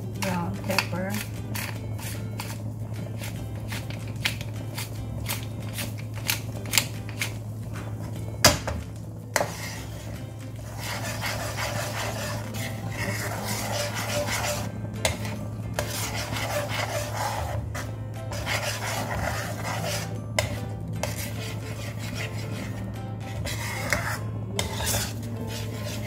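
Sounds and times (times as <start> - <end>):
low hum: 0.0 - 26.0
metal spoon scraping pan: 0.2 - 7.4, 9.3 - 26.0.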